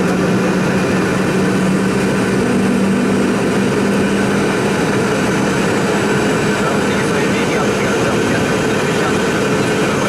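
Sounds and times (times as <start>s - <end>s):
aircraft engine hum: 0.0s - 10.0s
rush of airflow: 0.0s - 10.0s.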